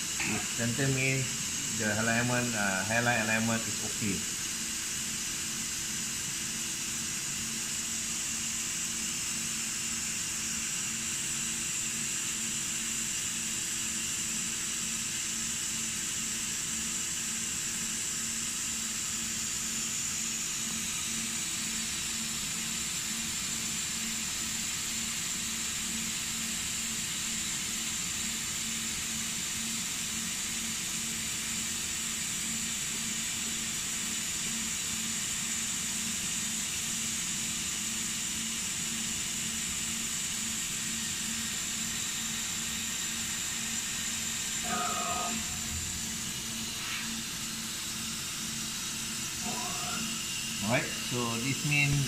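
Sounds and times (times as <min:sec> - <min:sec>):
saw hiss with high whine: 0:00.0 - 0:52.0.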